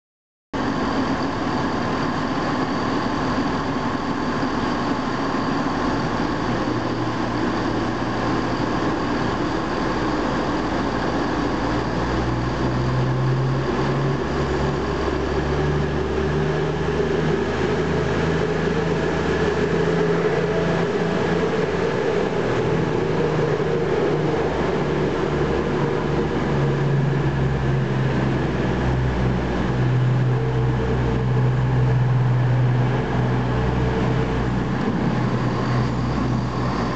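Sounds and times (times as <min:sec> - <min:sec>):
train diesel engines running: 0:00.6 - 0:36.9.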